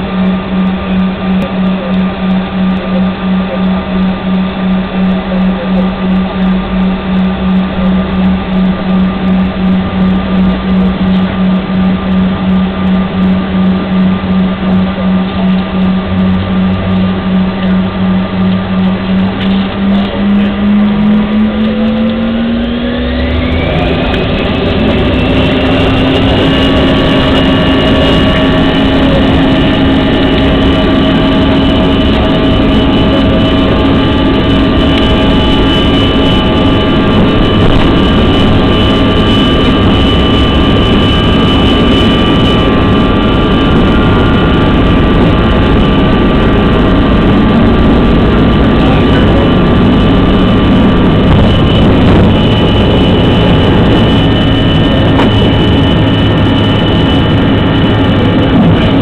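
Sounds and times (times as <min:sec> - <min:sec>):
jet engines whining: 0:00.0 - 0:59.0
low rumble: 0:00.0 - 0:59.0.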